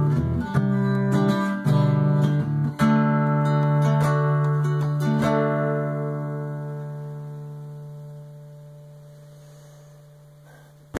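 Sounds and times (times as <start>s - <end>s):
acoustic guitar chord ringing: 0.0s - 10.7s.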